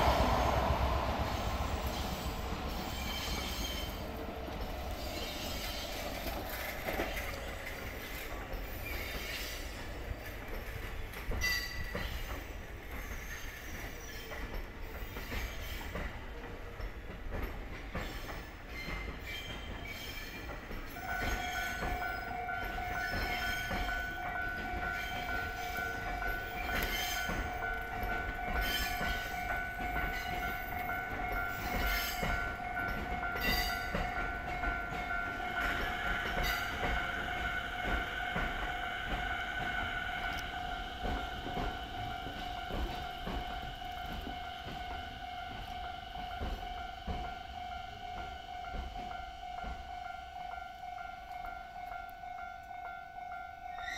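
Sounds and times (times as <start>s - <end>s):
train wheels clattering: 0.0s - 50.2s.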